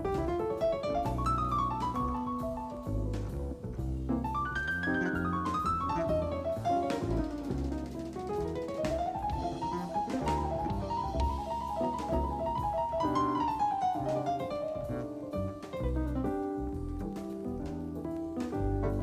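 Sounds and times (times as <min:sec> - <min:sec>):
drum kit with bass drum: 0:00.0 - 0:19.0.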